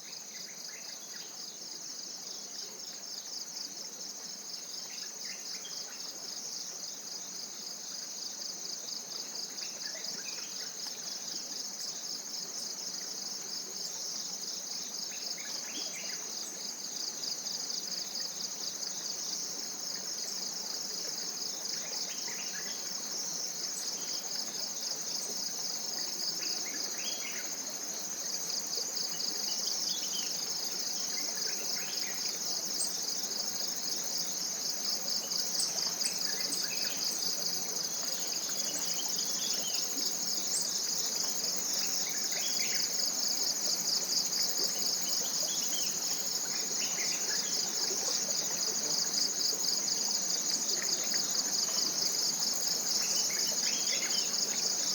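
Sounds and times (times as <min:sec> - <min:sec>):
insects trilling: 0:08.4 - 0:54.9.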